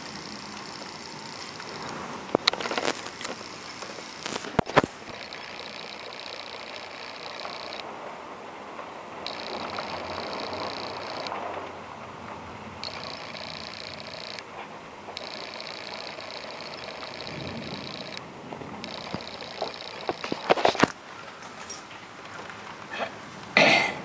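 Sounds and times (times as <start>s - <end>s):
high hiss: 0.0s - 7.9s, 9.2s - 11.9s, 12.8s - 21.8s
wind and rain rushing: 0.0s - 23.6s.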